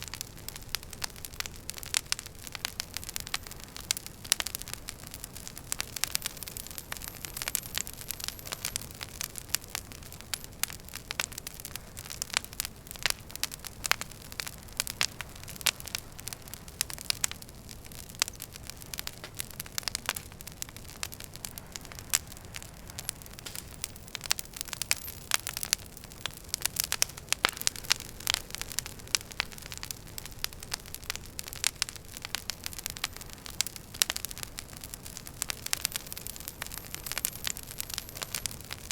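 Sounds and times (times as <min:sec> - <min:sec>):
wood fire crackling in a fireplace: 0:00.0 - 0:38.9.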